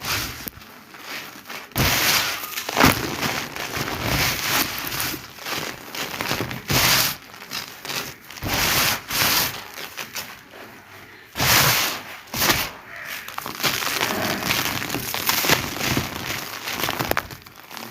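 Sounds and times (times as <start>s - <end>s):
sand cement crumbling: 0.0s - 17.9s.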